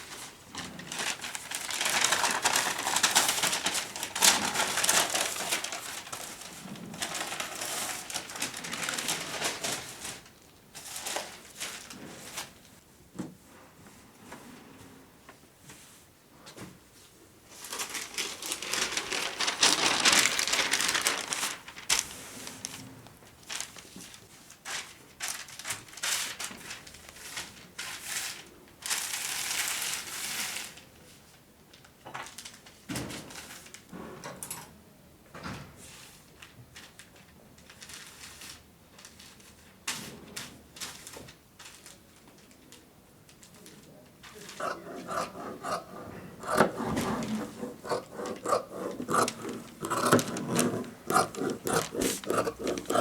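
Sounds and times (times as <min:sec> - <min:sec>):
fabric and paper rustling: 0:00.0 - 0:12.8, 0:17.0 - 0:34.0, 0:35.8 - 0:53.0.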